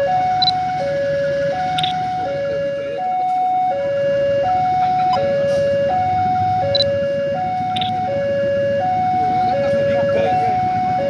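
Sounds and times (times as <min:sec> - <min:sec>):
level crossing alarm hi-lo tone: 0:00.0 - 0:11.0.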